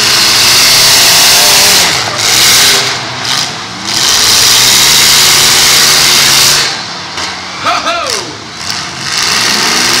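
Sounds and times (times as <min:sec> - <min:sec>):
car engines revving loudly: 0:00.0 - 0:10.0.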